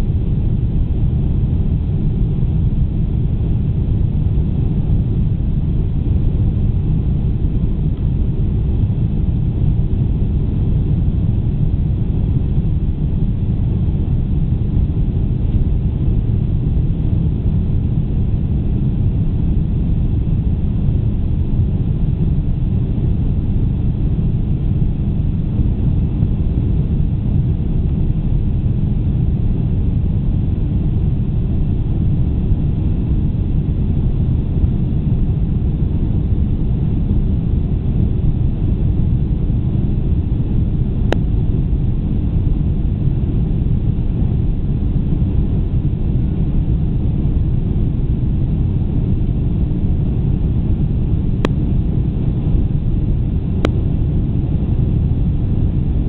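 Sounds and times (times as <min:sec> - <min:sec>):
airliner engine rumble in cabin: 0:00.0 - 0:56.0.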